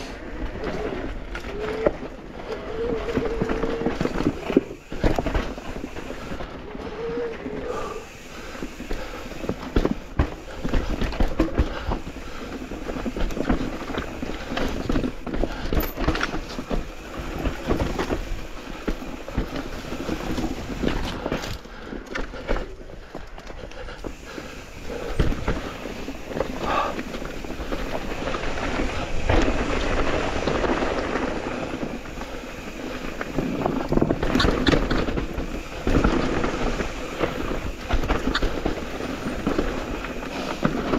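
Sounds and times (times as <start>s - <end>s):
bike tyres on rough trail: 0.0s - 40.9s
bike rattling and knocking: 0.4s - 6.6s, 7.7s - 40.9s.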